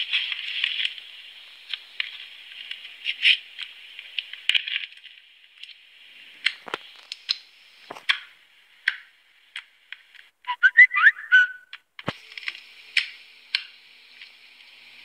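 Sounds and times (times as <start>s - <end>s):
crackly hiss: 0.0s - 10.4s, 11.8s - 15.0s.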